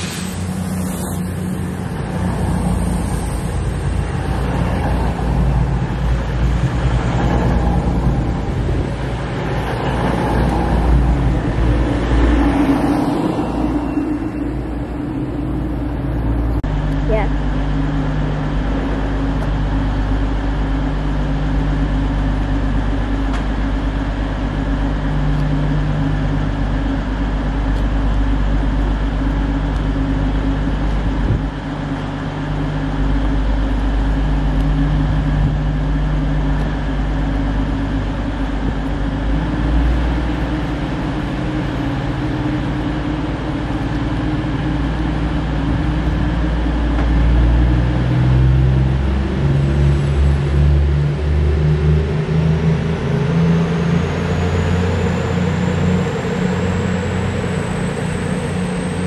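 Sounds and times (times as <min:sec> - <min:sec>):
train diesel engines idling: 0:00.0 - 0:59.0.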